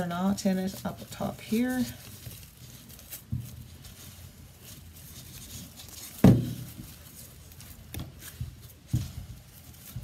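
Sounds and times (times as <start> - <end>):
twine rustling by hand: 0.0 - 10.0.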